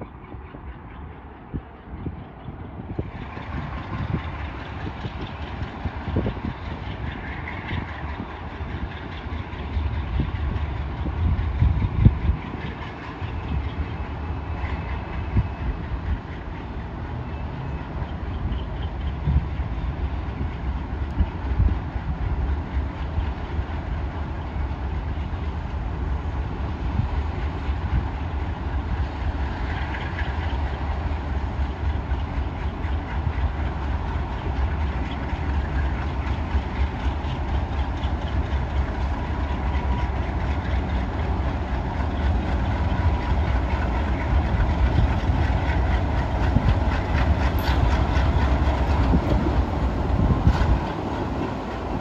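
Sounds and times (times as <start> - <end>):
diesel locomotive engine rumble: 0.0 - 52.0
train wheels clicking over rails: 0.0 - 52.0.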